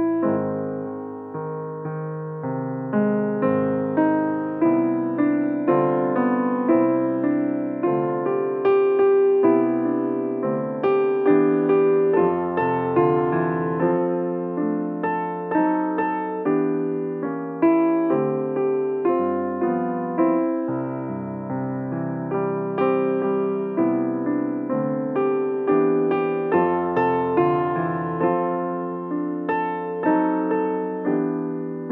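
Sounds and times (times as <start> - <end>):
piano playing slow chords: 0.0 - 31.9.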